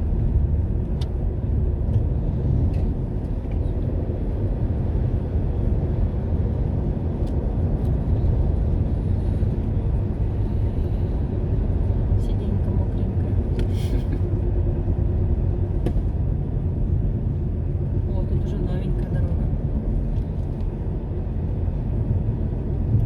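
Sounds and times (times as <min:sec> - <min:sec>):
engine and tyre rumble: 0:00.0 - 0:23.0.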